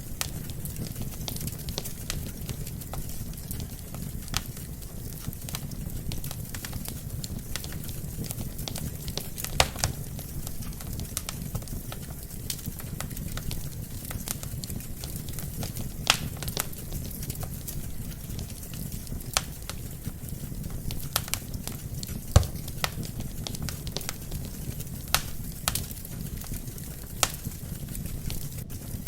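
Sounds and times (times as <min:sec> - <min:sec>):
fire burning in fireplace: 0:00.0 - 0:29.0
logs crackling and popping: 0:00.0 - 0:29.0.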